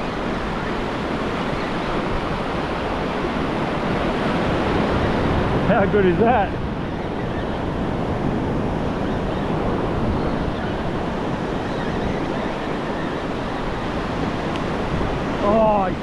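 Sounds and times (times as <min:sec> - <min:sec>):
ocean surf rushing: 0:00.0 - 0:16.0
wind rumble on microphone: 0:00.0 - 0:16.0.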